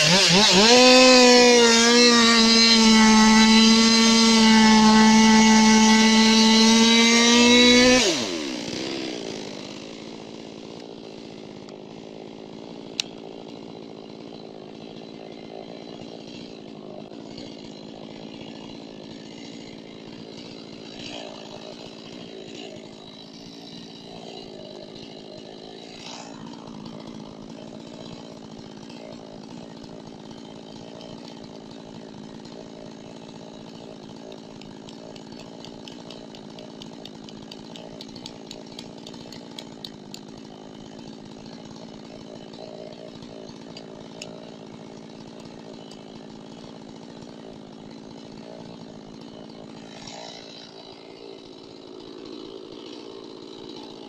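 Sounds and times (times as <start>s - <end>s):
chainsaw engine running: 0.0s - 54.0s.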